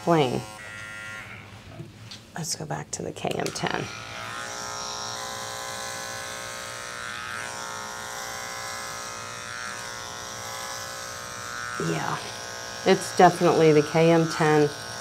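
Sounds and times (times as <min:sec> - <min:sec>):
electric dog clipper humming: 0:00.0 - 0:01.8, 0:03.3 - 0:15.0.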